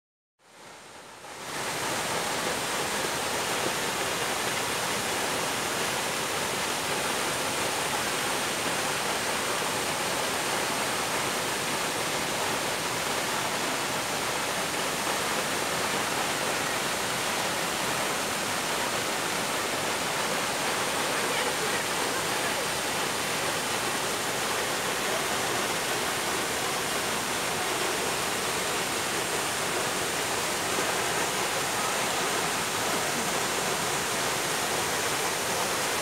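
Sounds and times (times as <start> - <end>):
waterfall rushing: 0.6 - 36.0.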